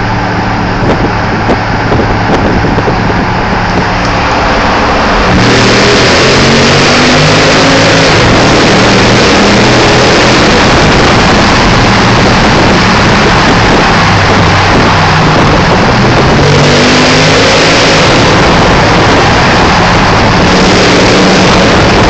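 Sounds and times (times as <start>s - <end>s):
car exhaust accelerating hard: 0.0s - 22.0s.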